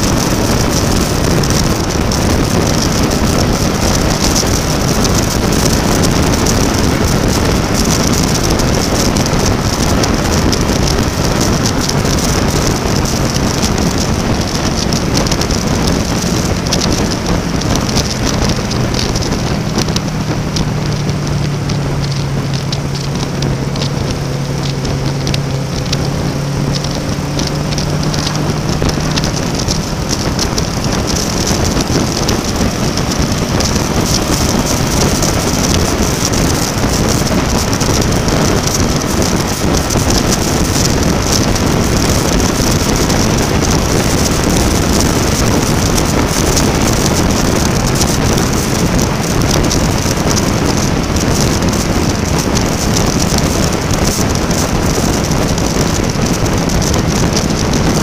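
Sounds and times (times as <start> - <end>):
motorcycle engine hum: 0.0 - 58.0
wind rushing over helmet camera: 0.0 - 58.0.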